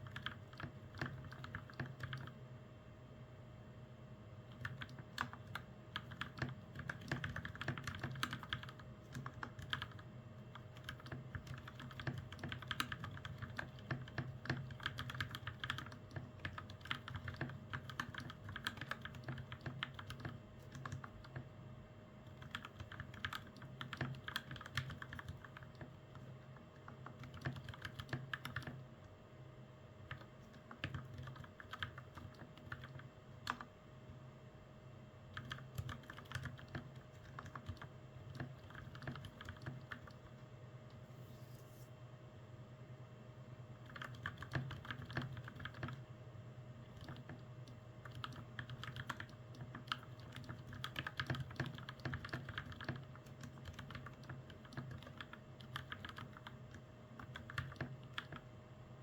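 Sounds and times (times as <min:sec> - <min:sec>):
mechanical keyboard typing: 0:00.0 - 0:02.4, 0:04.5 - 0:21.4, 0:22.3 - 0:28.8, 0:30.0 - 0:33.7, 0:35.3 - 0:40.3, 0:43.8 - 0:46.0, 0:46.8 - 0:58.5
faint steady hum: 0:00.0 - 0:59.0.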